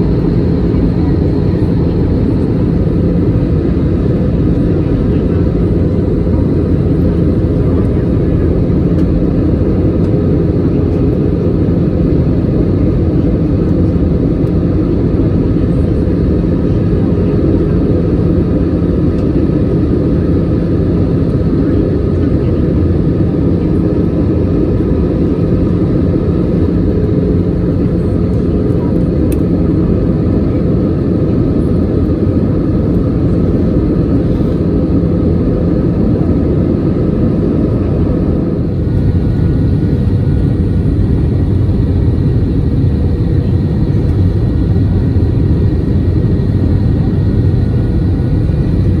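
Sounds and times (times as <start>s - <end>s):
jet engine cabin rumble: 0.0s - 49.0s.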